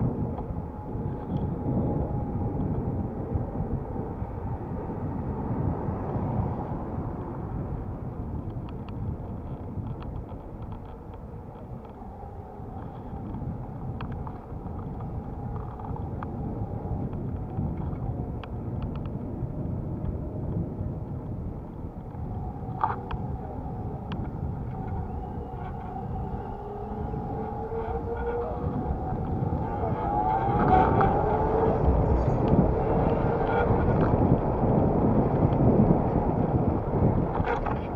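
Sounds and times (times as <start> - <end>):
road rumble: 0.0 - 37.9
wind on microphone: 0.0 - 37.9
faint whine: 7.2 - 37.9.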